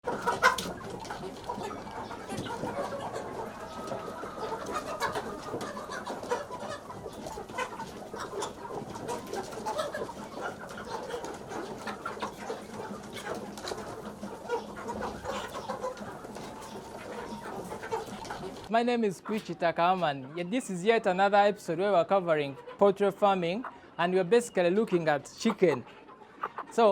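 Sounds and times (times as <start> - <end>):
chickens clucking and calling: 0.0 - 26.9.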